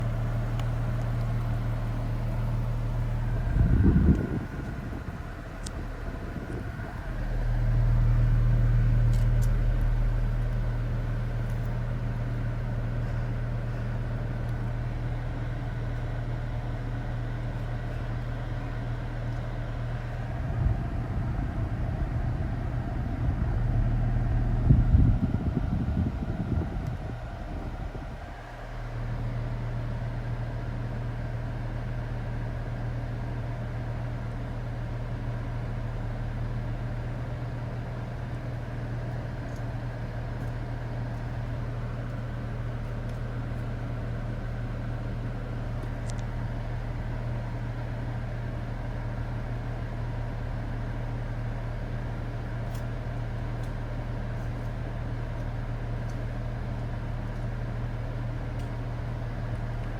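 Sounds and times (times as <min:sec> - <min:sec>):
car air conditioning humming: 0:00.0 - 0:59.9.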